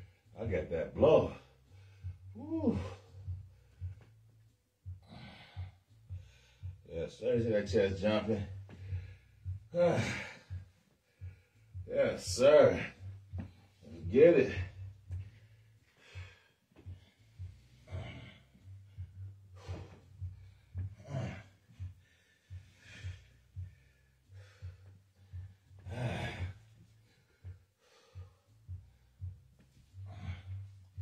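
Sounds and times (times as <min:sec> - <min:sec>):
man breathing hard: 0:01.3 - 0:04.1, 0:04.8 - 0:06.9, 0:08.5 - 0:31.0.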